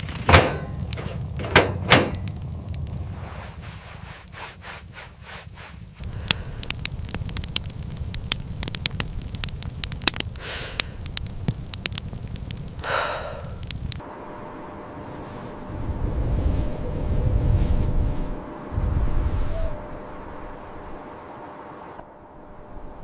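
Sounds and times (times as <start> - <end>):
fire crackling and popping: 0.0 - 14.1, 15.3 - 20.8
low fire rumble: 0.0 - 23.0.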